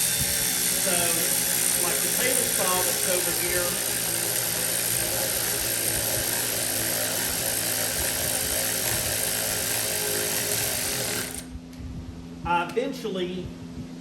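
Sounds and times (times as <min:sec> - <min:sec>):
machine rushing noise: 0:00.0 - 0:11.5
low hum: 0:00.0 - 0:12.6.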